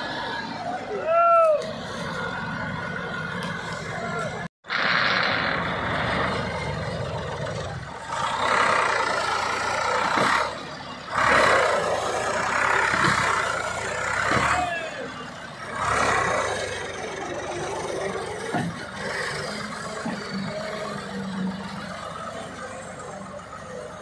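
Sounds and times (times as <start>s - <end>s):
tractor diesel engine revving: 1.6s - 24.0s.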